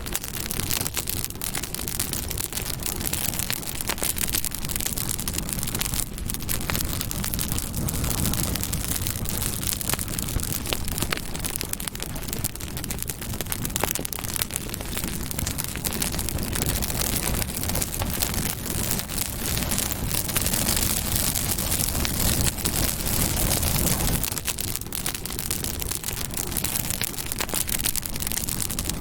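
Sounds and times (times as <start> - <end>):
campfire wood crackling: 0.0 - 29.0.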